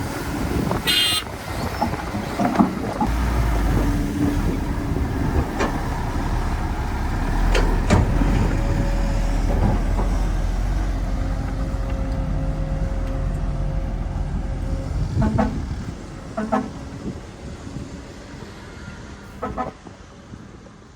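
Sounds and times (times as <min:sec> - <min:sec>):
heavy diesel machinery running: 0:00.0 - 0:19.7.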